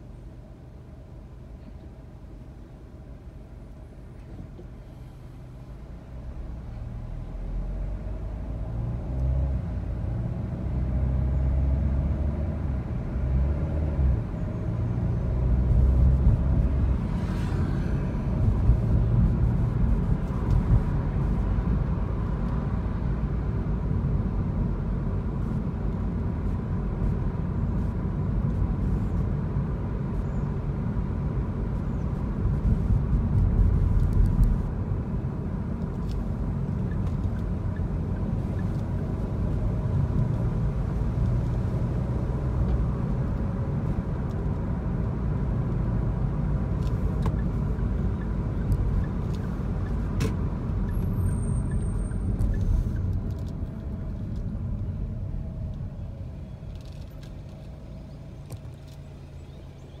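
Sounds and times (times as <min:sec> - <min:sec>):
car cabin engine and tyre rumble: 0:00.0 - 1:00.0.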